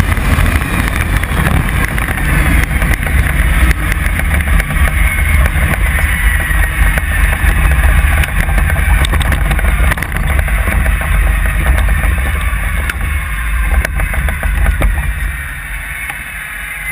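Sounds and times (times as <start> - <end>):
faint whine sinking in pitch: 0.0 - 16.9
rattles: 0.0 - 16.9
wind buffeting microphone: 0.0 - 16.9.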